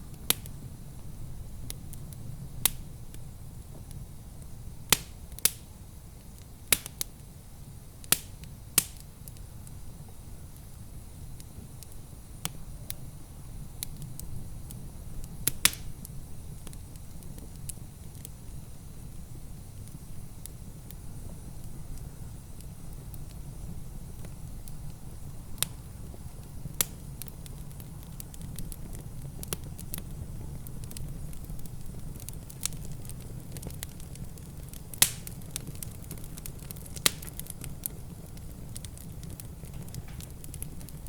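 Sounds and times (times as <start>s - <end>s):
sharp pops of fire: 0.0s - 41.0s
wood fire crackling: 0.0s - 41.0s.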